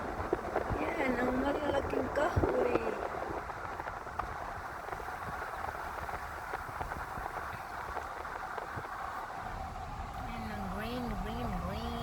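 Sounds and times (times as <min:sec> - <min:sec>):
car road and tyre noise: 0:00.0 - 0:12.0.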